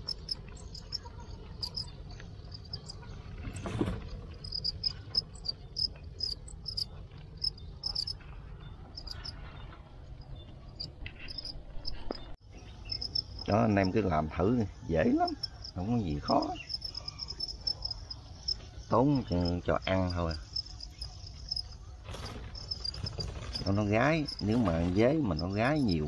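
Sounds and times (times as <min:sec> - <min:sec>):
crickets chirping: 0:00.0 - 0:01.0, 0:01.6 - 0:03.0, 0:04.3 - 0:08.2, 0:08.9 - 0:09.3, 0:10.8 - 0:26.0.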